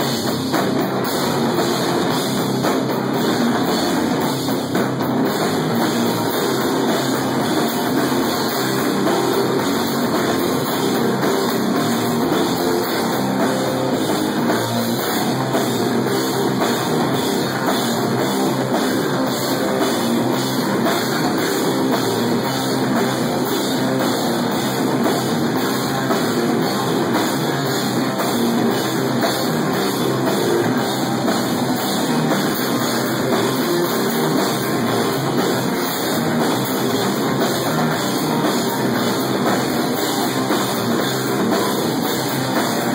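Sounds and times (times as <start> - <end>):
drum kit pounding: 0.0 - 42.9
metal band playing live: 0.0 - 42.9.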